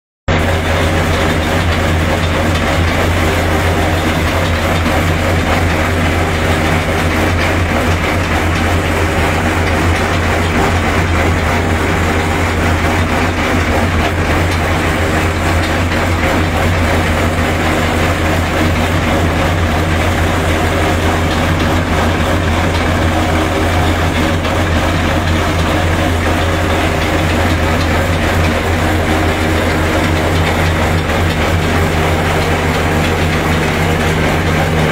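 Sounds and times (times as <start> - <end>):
shelling machine whirring: 0.3 - 34.9.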